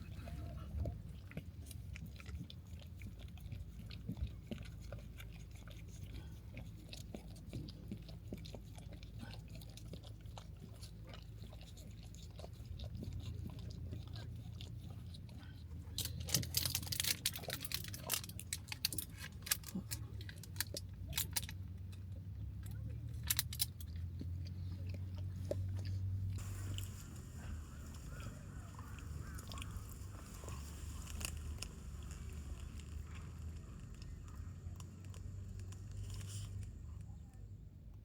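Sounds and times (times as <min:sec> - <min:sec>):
crunchy food being chewed: 0:00.0 - 0:38.0.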